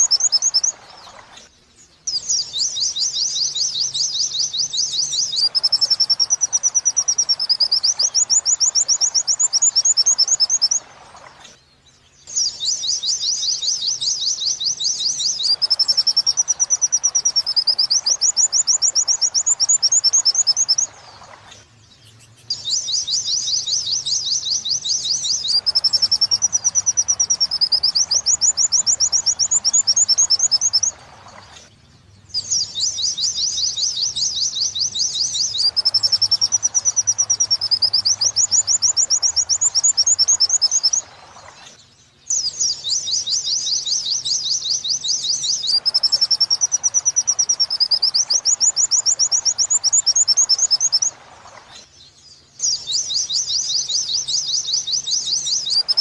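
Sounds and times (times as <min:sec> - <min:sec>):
white-eye bird twittering song: 0:00.0 - 0:56.0.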